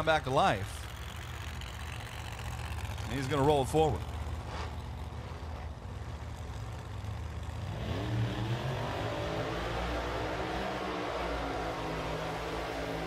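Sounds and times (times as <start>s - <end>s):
engine revving: 0.0s - 13.0s
engines idling with lumpy rumble: 0.0s - 13.0s.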